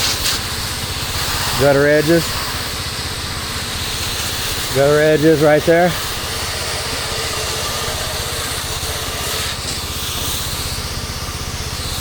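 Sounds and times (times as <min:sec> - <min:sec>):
gasoline engine running: 0:00.0 - 0:12.0
spray wand hissing: 0:00.0 - 0:12.0.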